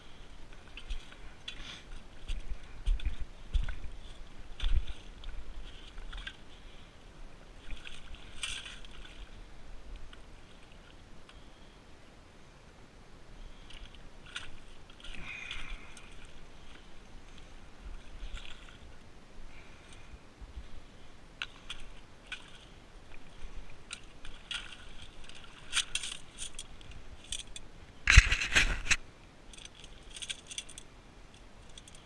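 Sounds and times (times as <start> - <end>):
digging in wet sand and stones: 0.0 - 11.9, 13.4 - 32.0.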